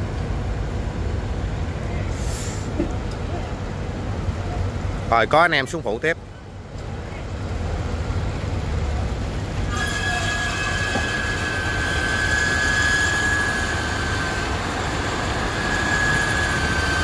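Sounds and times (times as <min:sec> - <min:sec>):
conveyor belt high-pitched squeal: 0:00.0 - 0:17.0
conveyor belt rushing noise: 0:00.0 - 0:17.0.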